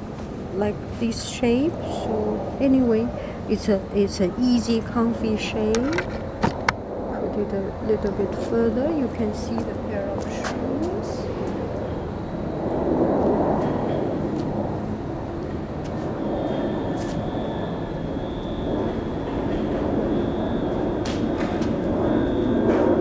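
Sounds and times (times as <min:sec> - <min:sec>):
faint high whine: 0:00.0 - 0:23.0
urban background rumble: 0:00.0 - 0:23.0.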